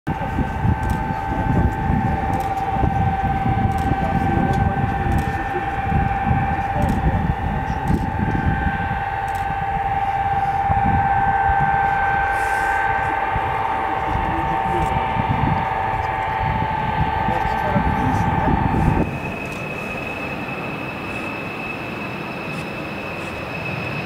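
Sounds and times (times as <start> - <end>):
low uneven rumble: 0.1 - 21.1
jet engines whining: 0.1 - 24.0.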